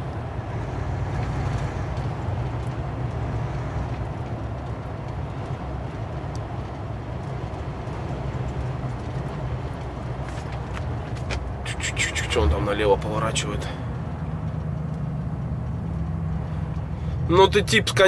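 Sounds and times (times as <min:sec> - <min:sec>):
road noise inside cab: 0:00.0 - 0:18.0
truck diesel engine drone: 0:00.0 - 0:18.0.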